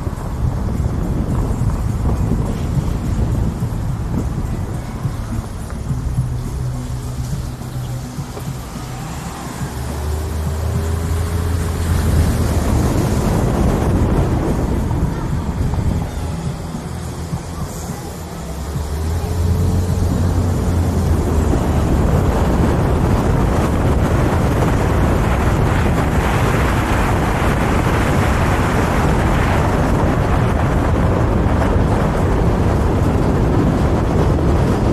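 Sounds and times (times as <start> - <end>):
car road and engine noise: 0.0 - 34.9
wind rushing over microphone: 0.0 - 34.9.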